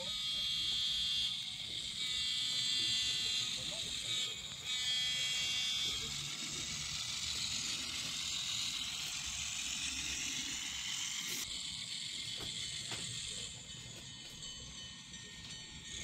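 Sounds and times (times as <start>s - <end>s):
electric motor whir: 0.0s - 16.0s
wheels on rails: 0.0s - 16.0s.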